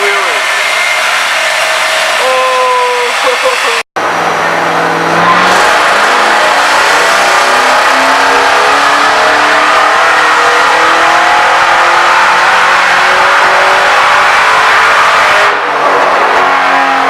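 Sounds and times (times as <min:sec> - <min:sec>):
car engine revving at full throttle: 0:00.0 - 0:17.0.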